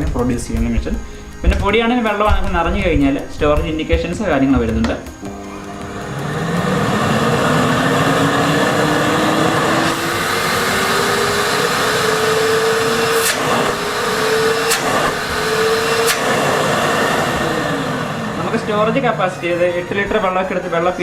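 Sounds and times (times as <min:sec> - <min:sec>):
vacuum cleaner motor whine: 0:03.5 - 0:21.0.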